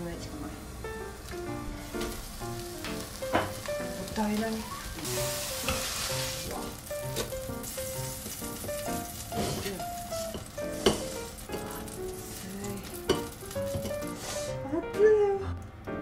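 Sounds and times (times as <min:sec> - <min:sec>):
tofu sizzling on plate: 0:01.2 - 0:14.6.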